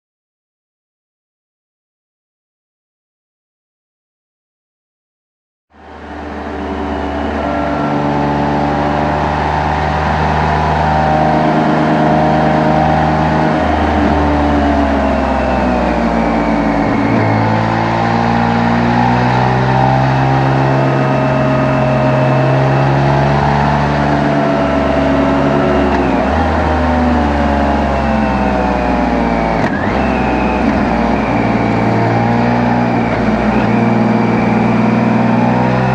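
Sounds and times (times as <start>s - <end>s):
motorcycle engine and exhaust: 5.7s - 35.9s
road and wind noise: 5.8s - 35.9s.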